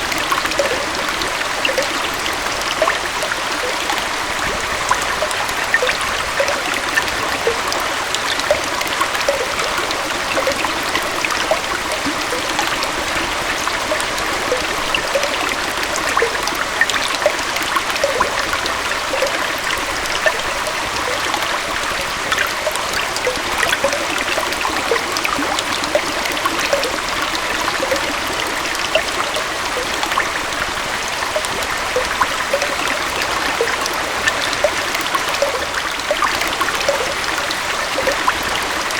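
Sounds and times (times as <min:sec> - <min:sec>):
stream splashing over rocks: 0:00.0 - 0:38.9.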